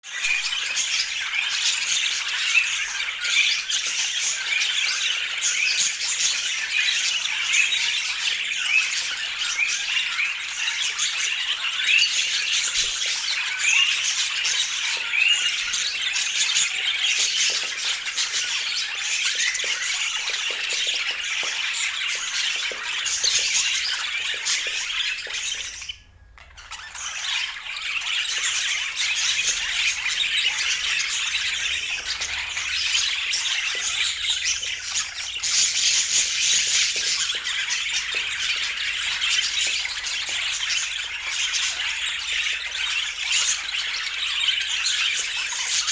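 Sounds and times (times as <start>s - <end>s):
budgerigars chirping: 0.1s - 45.9s.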